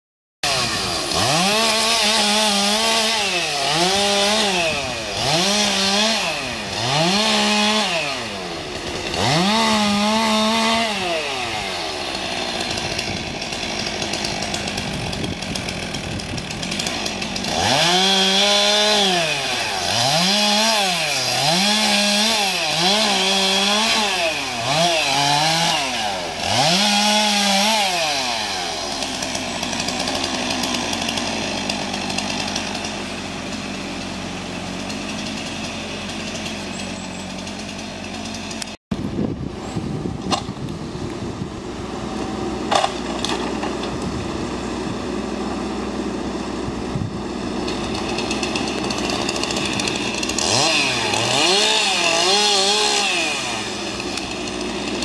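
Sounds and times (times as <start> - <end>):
chainsaw revving: 0.4 - 55.0.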